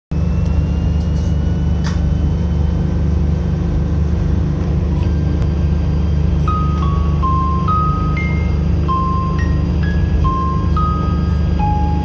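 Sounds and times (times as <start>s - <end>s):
diesel railcar engines rumbling: 0.1s - 12.0s.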